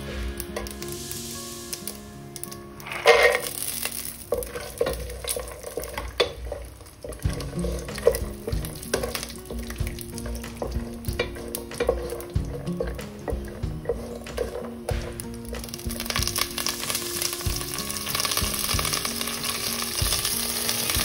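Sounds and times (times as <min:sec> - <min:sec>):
seeds sizzling in hot oil: 0:00.0 - 0:21.0
wooden spoon scraping a pan: 0:00.0 - 0:21.0.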